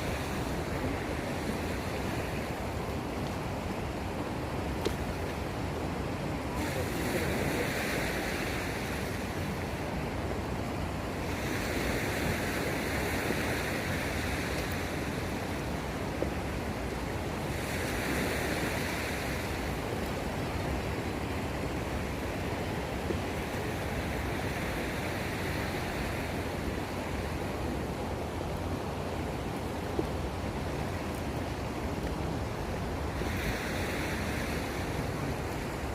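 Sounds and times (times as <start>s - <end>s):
sea waves washing on shore: 0.0s - 35.9s.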